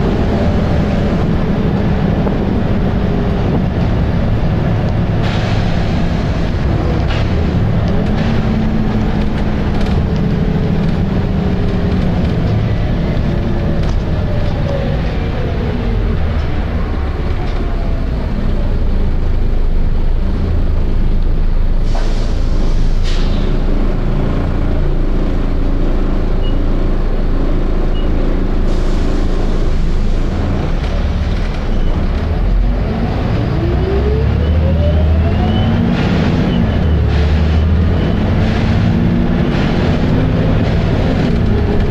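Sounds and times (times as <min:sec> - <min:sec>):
bus engine and drivetrain whine: 0:00.0 - 0:41.9.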